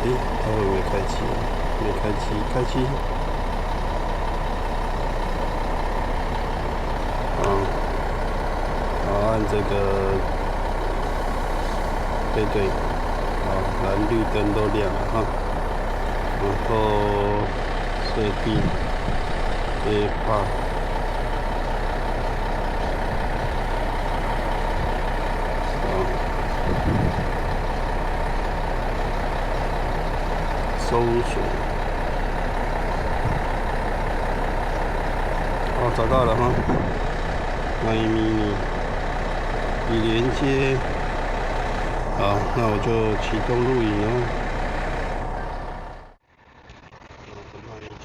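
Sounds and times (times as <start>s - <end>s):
bus engine idling: 0.0s - 47.9s.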